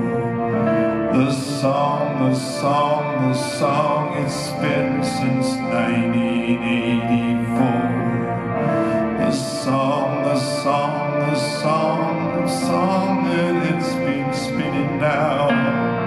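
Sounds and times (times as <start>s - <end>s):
man singing: 0.0s - 16.0s
piano chords: 0.0s - 16.0s
sustained backing tones: 0.0s - 16.0s.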